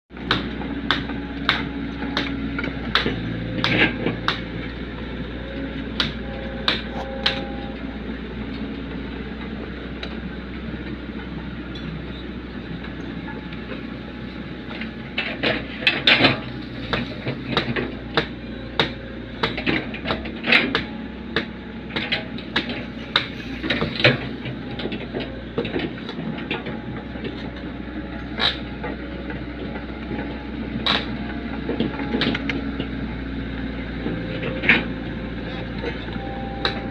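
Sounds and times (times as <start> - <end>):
excavator engine running: 0.1 - 36.9.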